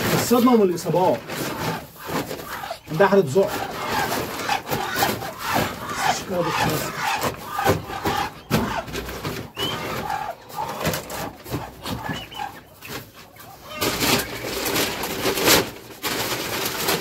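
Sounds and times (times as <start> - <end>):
quail chirping: 0.0 - 15.6.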